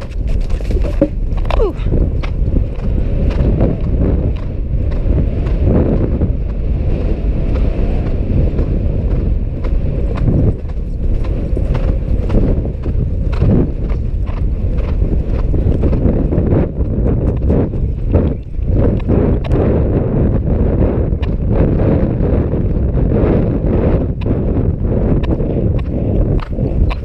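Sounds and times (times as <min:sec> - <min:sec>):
horse hoofbeats on grass: 0:00.0 - 0:27.0
wind buffeting camera: 0:00.0 - 0:27.0.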